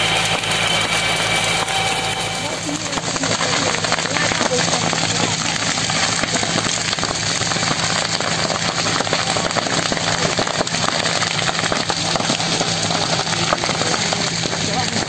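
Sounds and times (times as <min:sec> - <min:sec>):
bush fire crackling and popping: 0:00.0 - 0:15.0
low engine drone: 0:00.0 - 0:15.0.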